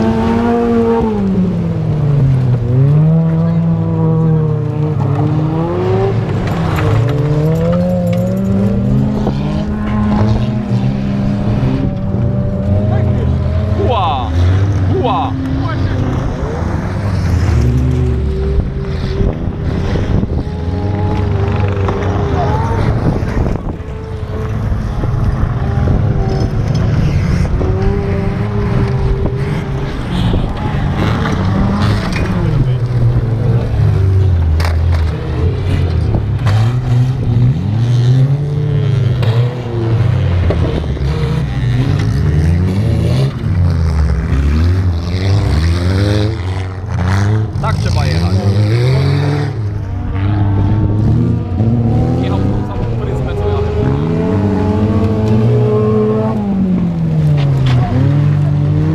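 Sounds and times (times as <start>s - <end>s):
race car engines revving: 0.0s - 58.9s.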